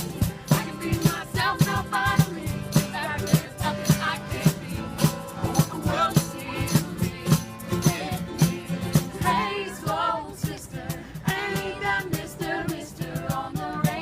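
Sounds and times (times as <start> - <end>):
song with singing voice: 0.0 - 14.0
steady drum beat: 0.0 - 14.0.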